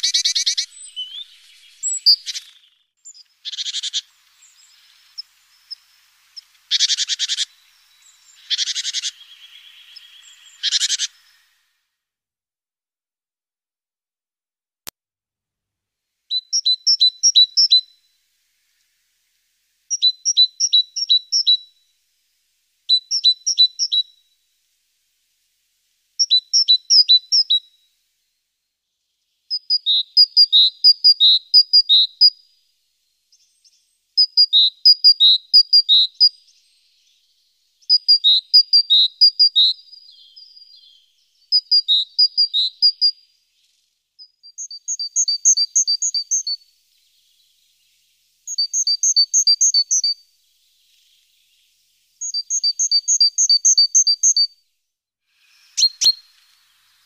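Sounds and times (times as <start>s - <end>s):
songbird singing high chirps: 0.0s - 11.6s, 16.3s - 19.2s, 19.8s - 24.4s, 26.2s - 28.0s, 28.8s - 54.6s, 55.4s - 57.0s.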